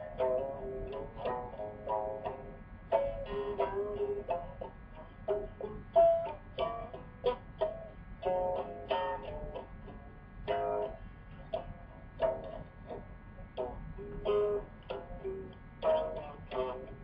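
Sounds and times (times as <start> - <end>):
plucked guitar notes and chords: 0.0 - 17.0.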